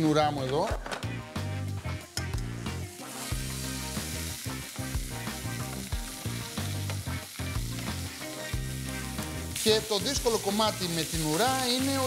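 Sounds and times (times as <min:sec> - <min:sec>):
low background music: 0:00.0 - 0:12.0
meat sizzling in a frying pan: 0:02.2 - 0:12.0.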